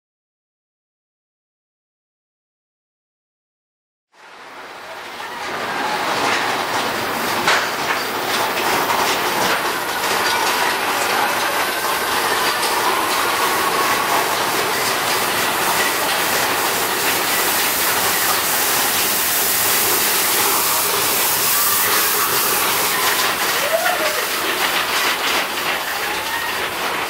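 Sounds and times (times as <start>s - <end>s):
roller coaster cars rumbling: 4.2s - 27.0s.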